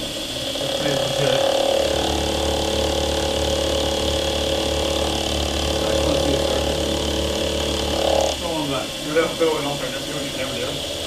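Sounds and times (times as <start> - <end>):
milling machine hum and whine: 0.0 - 11.0.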